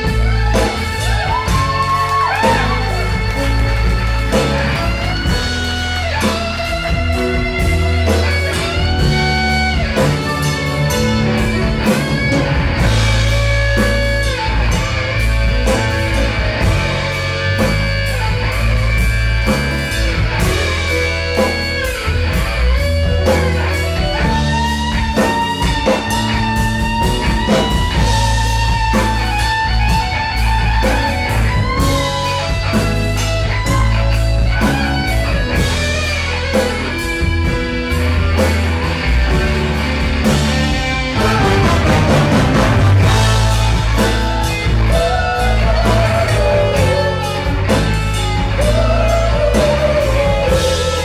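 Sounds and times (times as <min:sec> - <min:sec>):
bass guitar: 0:00.0 - 0:51.0
electric guitar lead notes: 0:00.0 - 0:51.0
steady drum beat: 0:00.0 - 0:51.0.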